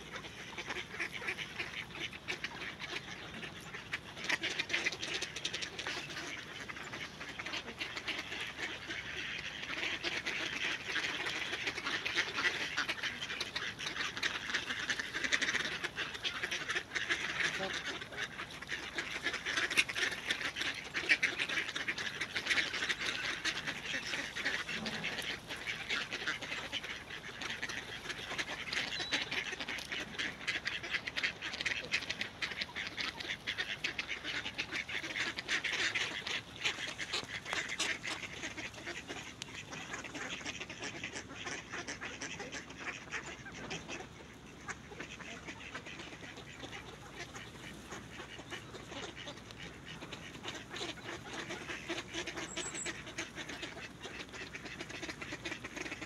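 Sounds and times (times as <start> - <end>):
flock of ducks quacking: 0.0 - 56.0.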